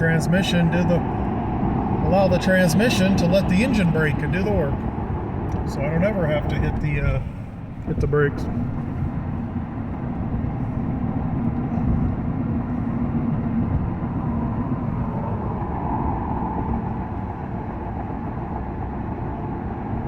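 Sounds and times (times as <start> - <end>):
tyre and road rumble: 0.0 - 18.1
car engine humming: 0.0 - 20.0.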